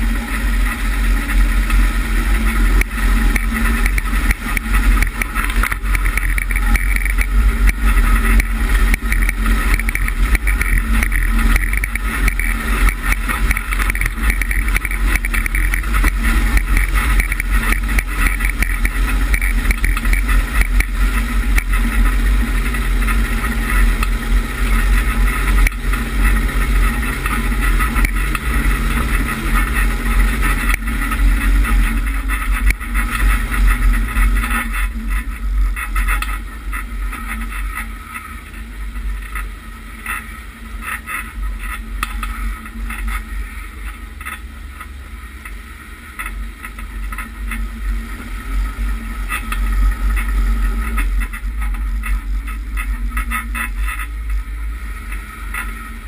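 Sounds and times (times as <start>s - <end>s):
low rumble of driving off-road: 0.0s - 56.0s
vehicle engine running: 0.0s - 56.0s.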